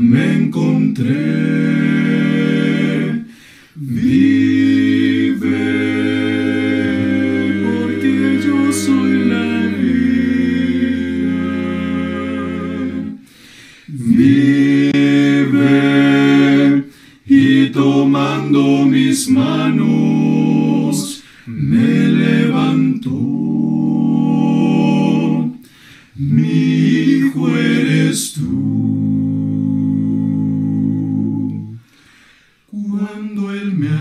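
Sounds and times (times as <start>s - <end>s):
male quartet singing a hymn: 0.0s - 34.0s.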